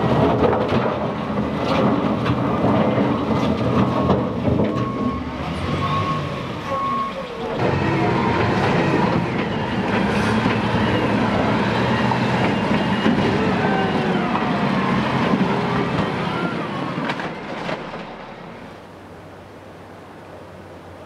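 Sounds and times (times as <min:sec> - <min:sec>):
loader diesel engine running hard: 0:00.0 - 0:18.8.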